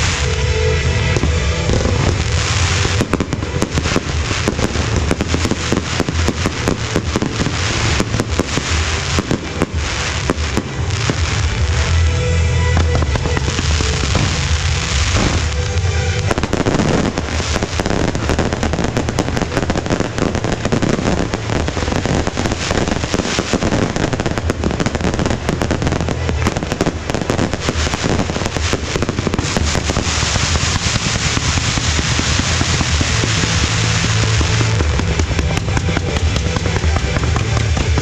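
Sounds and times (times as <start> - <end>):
fireworks crackling and popping: 0.0 - 38.0
music: 0.0 - 38.0.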